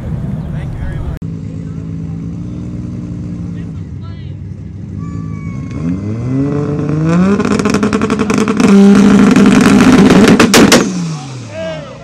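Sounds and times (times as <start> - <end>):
car engine revving with stutter: 1.2 - 12.0.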